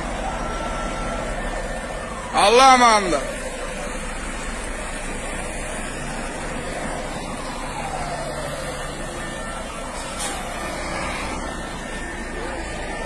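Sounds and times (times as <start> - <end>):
fire engines driving past: 0.0 - 13.0.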